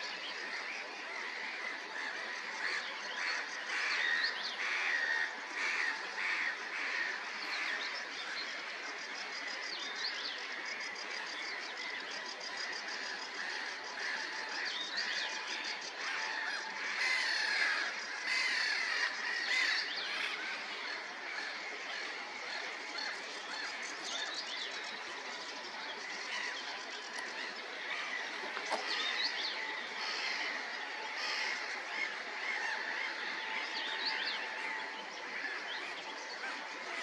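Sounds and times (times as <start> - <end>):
small birds chirping and singing: 0.0 - 37.0.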